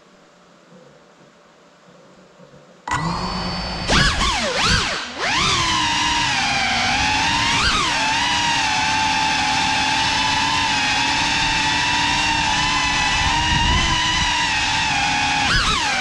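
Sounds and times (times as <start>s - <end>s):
drone motors whining: 2.9s - 16.0s.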